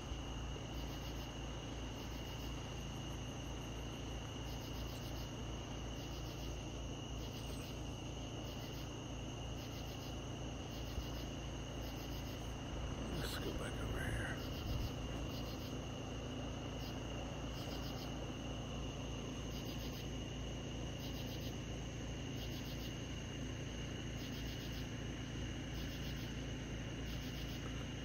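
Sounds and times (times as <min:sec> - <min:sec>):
crickets chirping: 0:00.0 - 0:28.0
low hum: 0:00.0 - 0:28.0.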